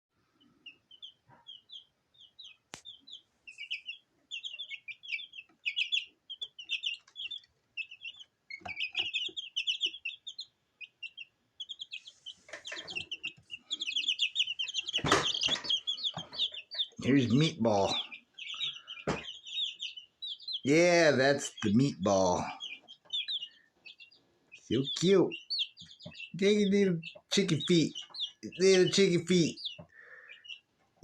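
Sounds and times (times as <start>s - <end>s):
chicks peeping: 0.2s - 31.0s.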